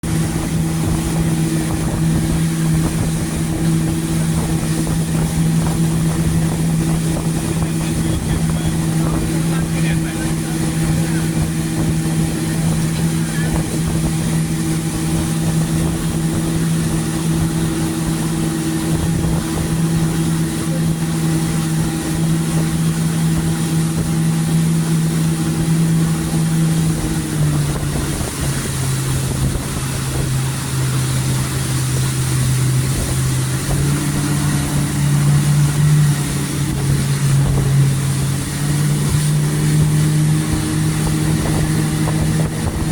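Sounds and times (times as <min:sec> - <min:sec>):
boat engine running: 0:00.0 - 0:42.9
wind and water rushing: 0:00.0 - 0:42.9.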